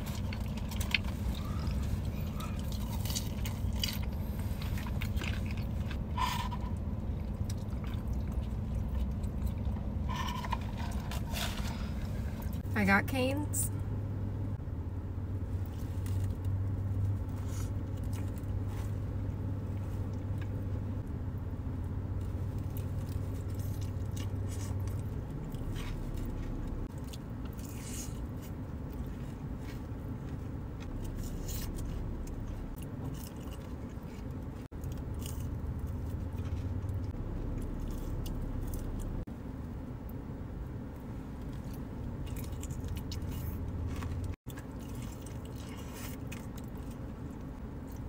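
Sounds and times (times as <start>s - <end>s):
chewing and crunching food: 0.0s - 12.7s, 15.4s - 48.0s
low steady hum: 0.0s - 48.0s.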